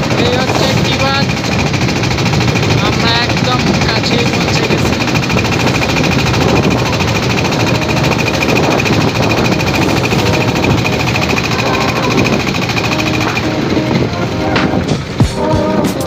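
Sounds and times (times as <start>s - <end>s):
boat engine chugging: 0.0s - 16.0s.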